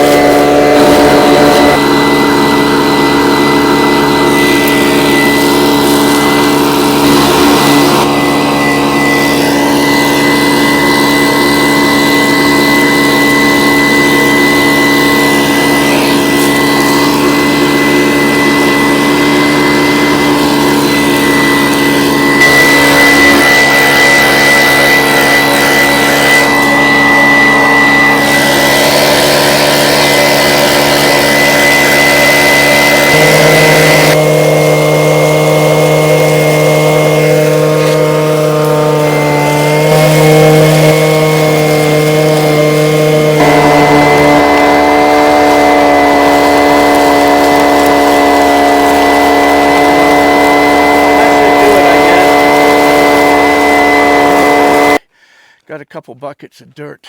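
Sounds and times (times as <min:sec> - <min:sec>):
vacuum sucking gravel: 0:00.0 - 0:55.1.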